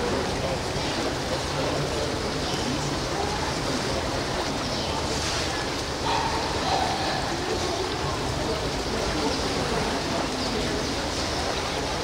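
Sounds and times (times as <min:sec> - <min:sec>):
faint indistinct voices: 0:00.0 - 0:12.0.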